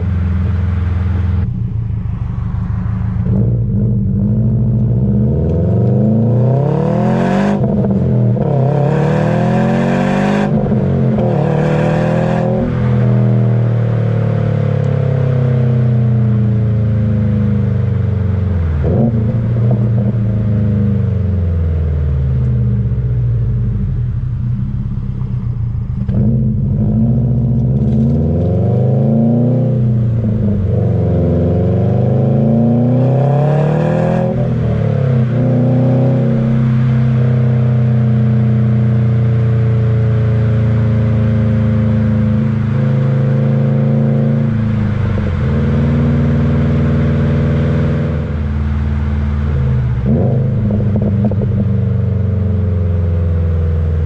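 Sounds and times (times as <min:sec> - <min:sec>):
car exhaust revving: 0:00.0 - 0:54.0.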